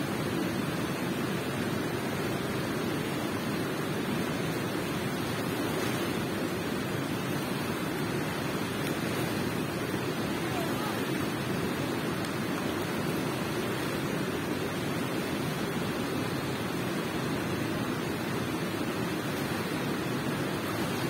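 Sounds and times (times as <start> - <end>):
water rushing in a cave: 0.0 - 21.0.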